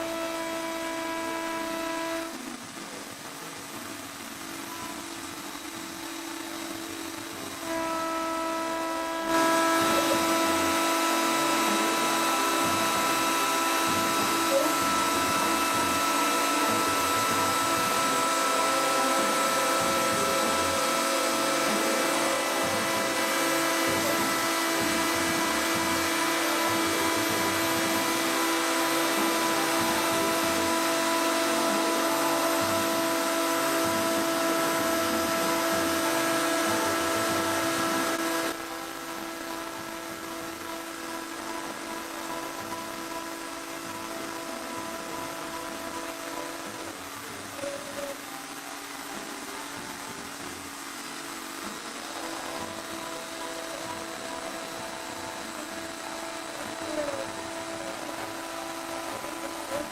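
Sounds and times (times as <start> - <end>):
cutting hiss: 0.0 - 59.9
machine motor whine: 0.0 - 59.9.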